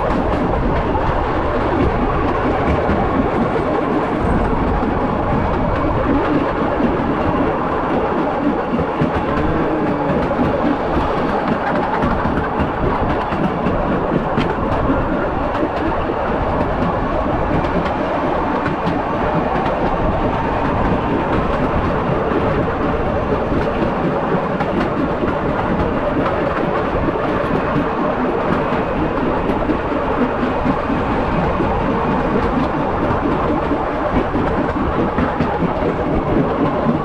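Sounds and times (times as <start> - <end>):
moving vehicle rumbling and rattling: 0.0 - 37.0.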